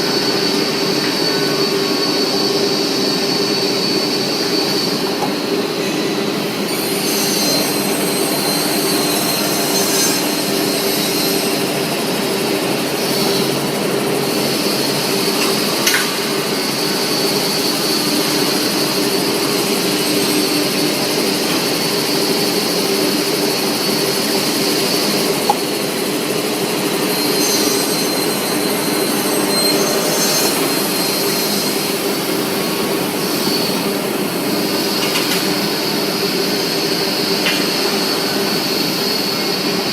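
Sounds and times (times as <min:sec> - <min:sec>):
panel saw humming and whining: 0:00.0 - 0:39.9.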